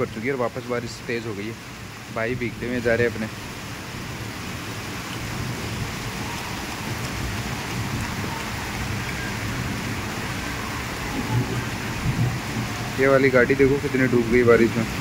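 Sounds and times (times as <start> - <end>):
heavy rain on flooded street: 0.0 - 15.0.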